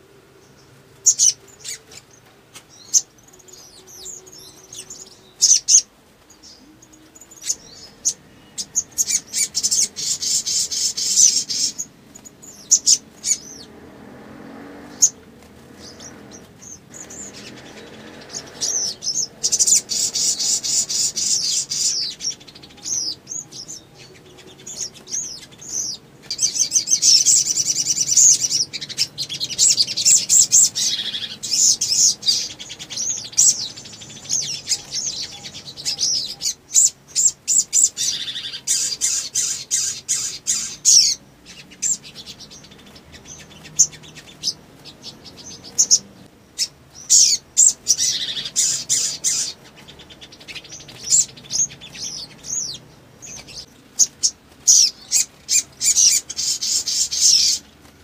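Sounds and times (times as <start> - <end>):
bird chirping and trilling: 0.4 - 57.7.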